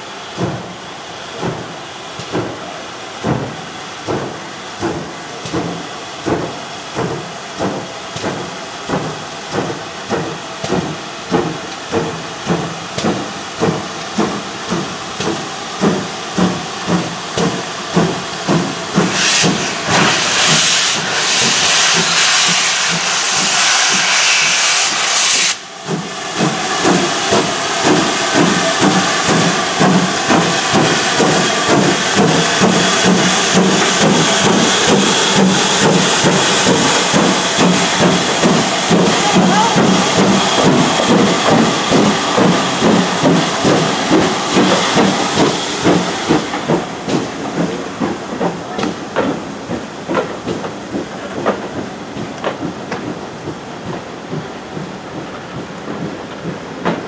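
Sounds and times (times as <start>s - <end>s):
steam hissing: 0.0s - 57.0s
steam locomotive exhaust chuffs: 0.0s - 57.0s.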